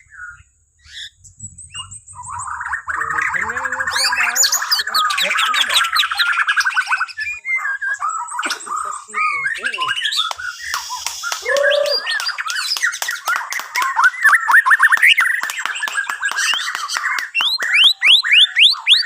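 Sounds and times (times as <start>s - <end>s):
bird singing whistles and trills: 0.0s - 19.0s.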